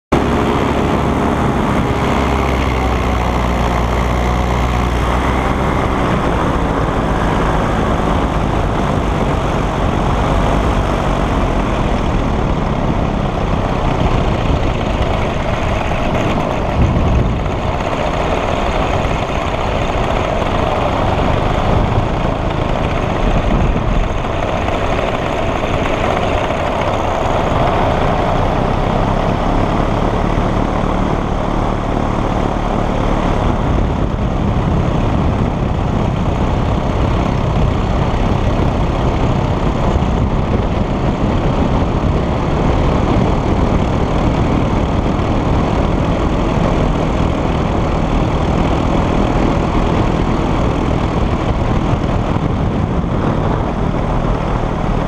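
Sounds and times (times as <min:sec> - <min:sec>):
paramotor engine and propeller: 0:00.0 - 0:55.0.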